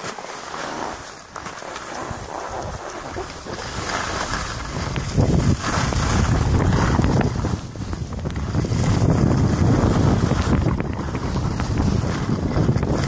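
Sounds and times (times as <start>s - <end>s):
skis swishing on snow: 0.0s - 13.0s
wind buffeting microphone: 1.9s - 13.0s.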